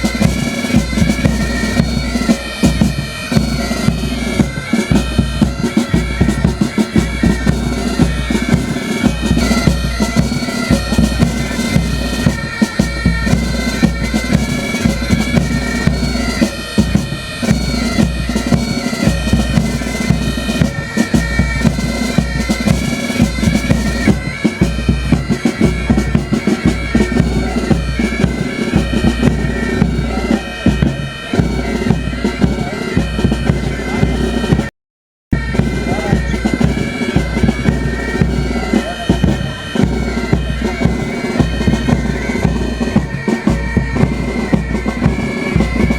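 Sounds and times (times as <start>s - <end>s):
bagpipes playing with drone: 0.0s - 34.7s, 35.4s - 45.9s
drums beating march rhythm: 0.0s - 34.7s, 35.3s - 45.9s.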